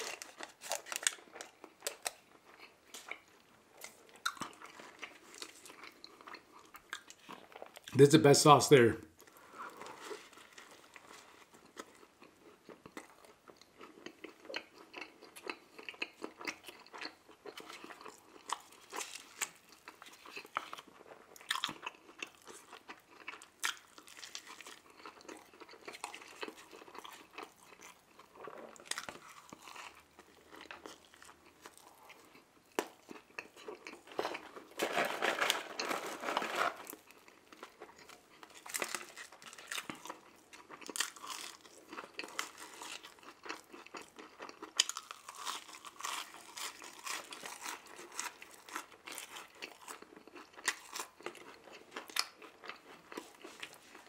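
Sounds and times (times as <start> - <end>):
chewing crunchy food: 0.0 - 8.0, 9.2 - 54.0.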